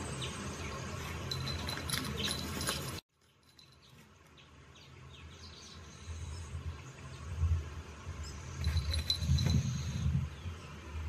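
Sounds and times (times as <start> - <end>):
birdsong and chirping: 0.0 - 11.0.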